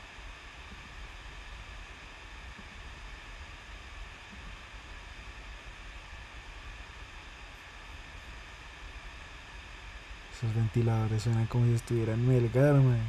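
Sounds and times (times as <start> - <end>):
electric fans running: 0.0 - 13.0.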